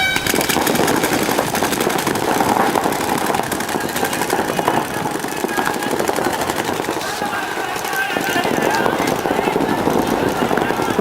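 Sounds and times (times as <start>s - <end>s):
paintball markers firing: 0.0s - 11.0s.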